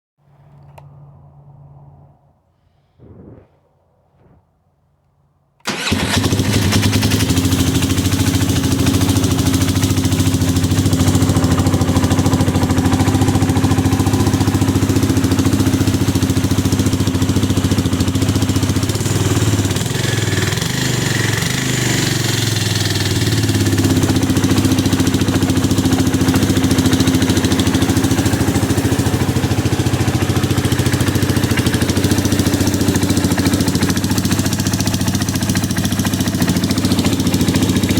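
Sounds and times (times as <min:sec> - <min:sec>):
engine starting and idling: 0:05.6 - 0:37.9.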